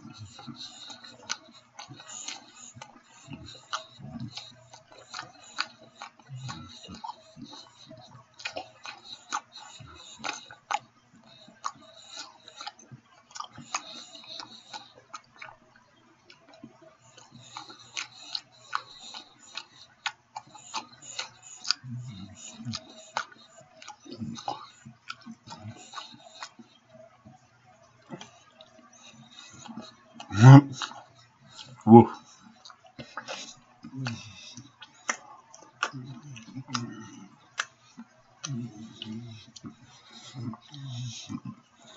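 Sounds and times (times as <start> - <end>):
chewing and lip-smacking: 0.0 - 41.9.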